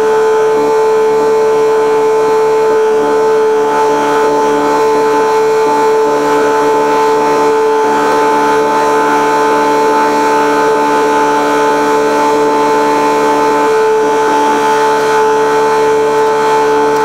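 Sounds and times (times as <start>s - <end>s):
boat machinery drone: 0.0s - 17.0s
steady high whine: 0.0s - 17.0s.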